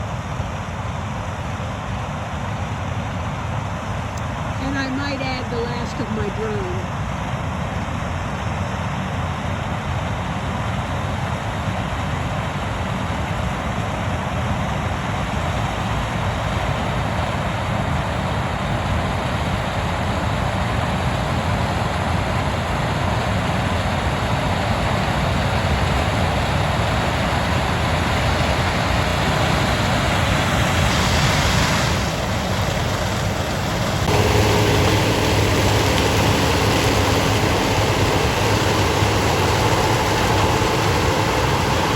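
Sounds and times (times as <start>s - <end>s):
harvesting machinery engines running: 3.7s - 41.9s
deep engine hum: 4.1s - 7.6s, 11.0s - 41.9s.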